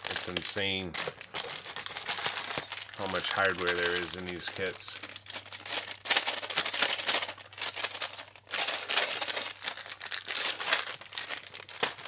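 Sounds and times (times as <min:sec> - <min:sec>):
plastic bags of screws crinkling: 0:00.0 - 0:12.0.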